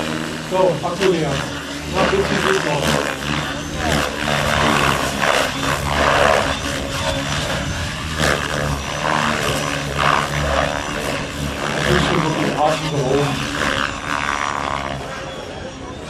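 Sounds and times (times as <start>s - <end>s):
model helicopter rotor: 0.0s - 16.0s.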